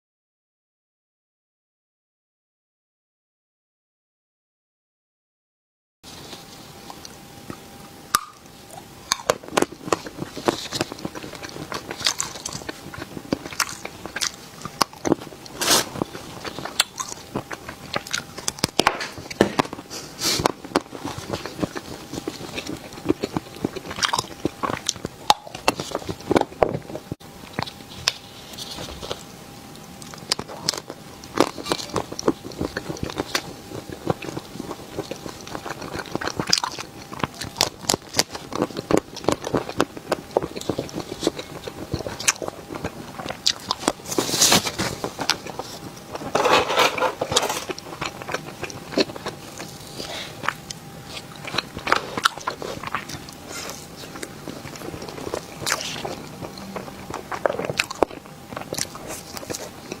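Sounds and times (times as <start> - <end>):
person biting and chewing: 6.3 - 60.0.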